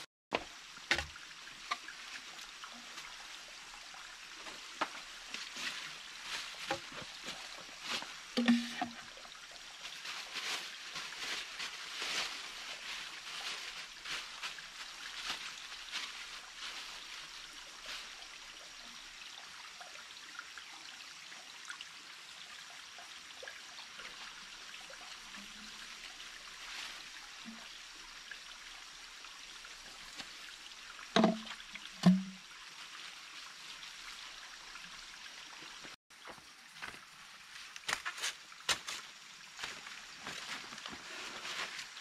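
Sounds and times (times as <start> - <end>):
stream trickling and gurgling: 0.0 - 42.0.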